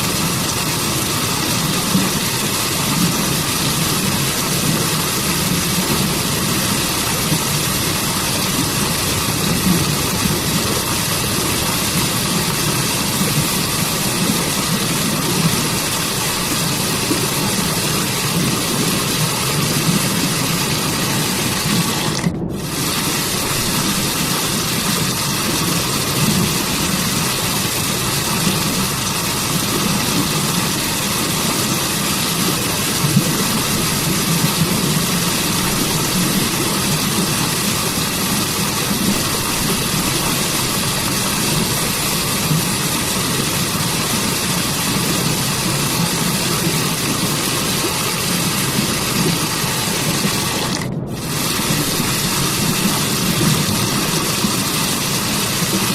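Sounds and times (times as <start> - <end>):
waterfall rushing water: 0.0 - 55.9.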